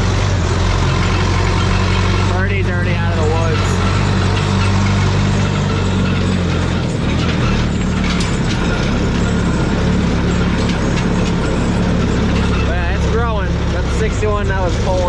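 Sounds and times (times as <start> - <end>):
heavy diesel machine running: 0.0 - 15.0
metallic clicks and clanks: 0.9 - 14.2.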